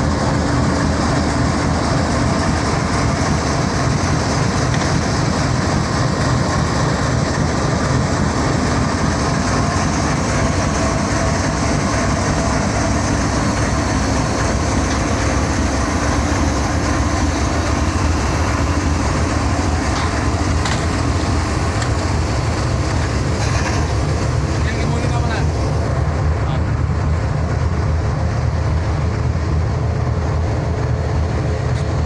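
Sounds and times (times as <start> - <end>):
locomotive engine idling: 0.0 - 32.0.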